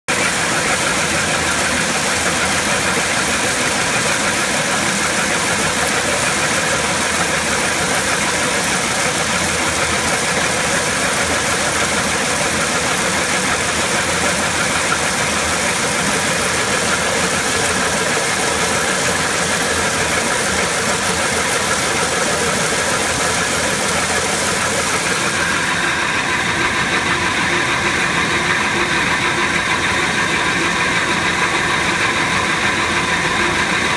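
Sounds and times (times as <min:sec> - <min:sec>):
cone crusher machine drone: 0:00.1 - 0:33.9.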